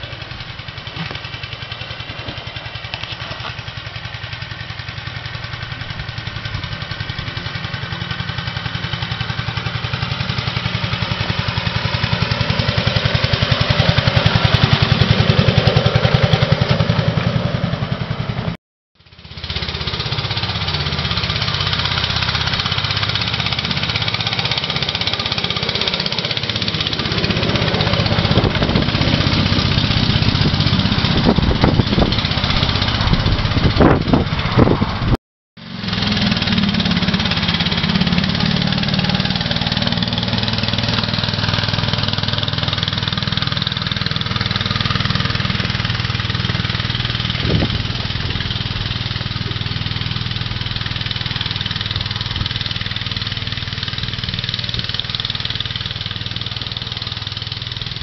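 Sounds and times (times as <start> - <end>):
miniature locomotive engine running: 0.0 - 34.6, 35.6 - 58.0.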